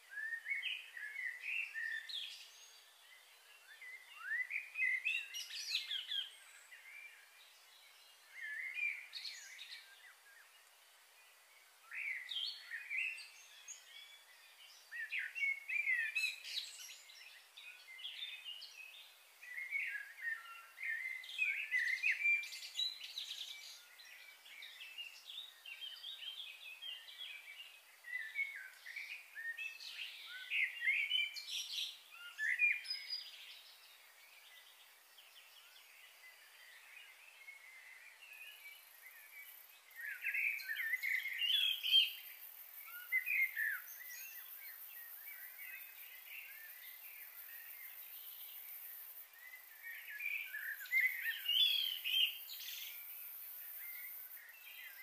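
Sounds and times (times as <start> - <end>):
birds chirping and singing: 0.1 - 10.5, 11.3 - 55.0.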